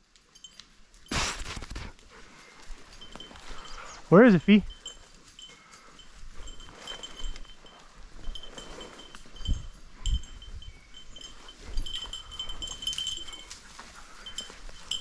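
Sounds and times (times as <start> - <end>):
collar bell jingling: 0.0 - 1.1, 2.1 - 15.0.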